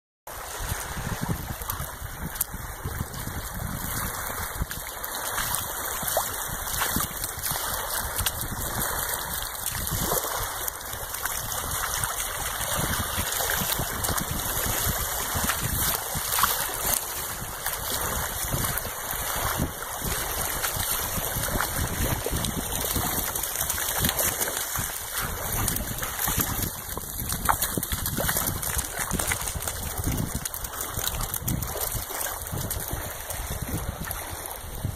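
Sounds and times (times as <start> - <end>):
water lapping on shore: 0.3 - 34.9.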